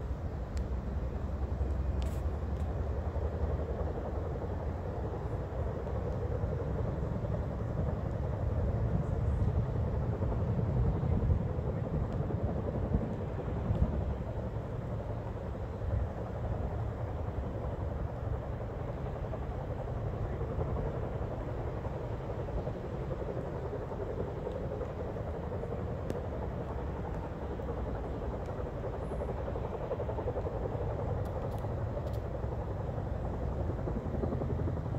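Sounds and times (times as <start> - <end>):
helicopter rotor drone: 0.0 - 34.9.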